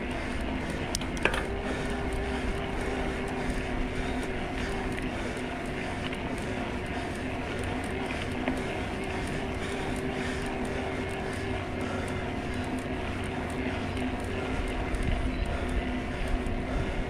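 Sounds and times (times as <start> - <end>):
electric bike motor whining: 0.0 - 17.0
wind and tyres rumbling: 0.0 - 17.0.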